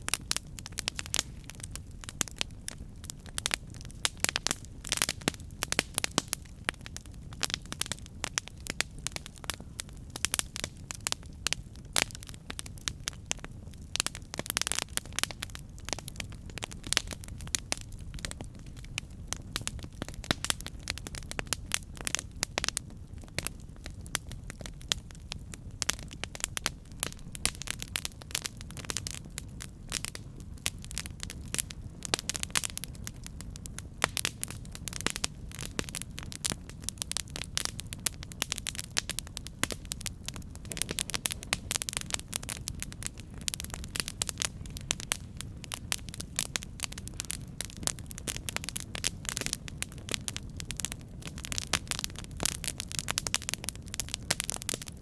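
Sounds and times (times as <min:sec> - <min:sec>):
low rumble of flame: 0:00.0 - 0:55.0
wood crackles and pops: 0:00.0 - 0:55.0.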